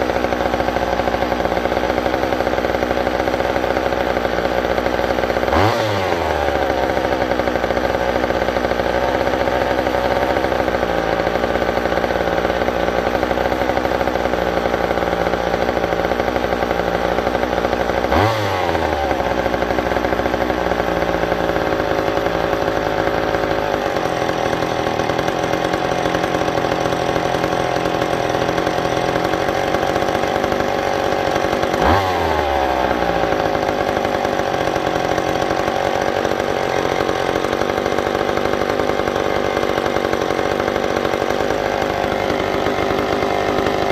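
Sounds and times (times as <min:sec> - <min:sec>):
chainsaw engine revving: 0:00.0 - 0:43.9.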